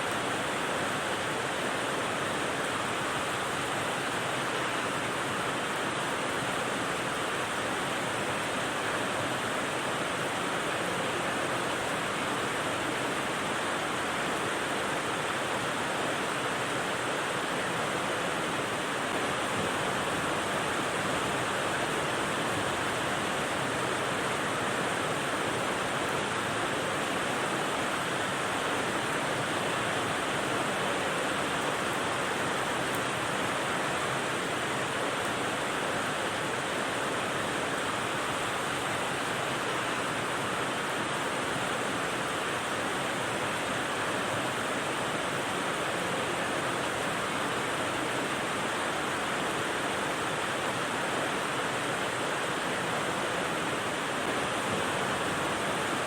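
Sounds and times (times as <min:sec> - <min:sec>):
rain white noise hiss: 0:00.0 - 0:56.0.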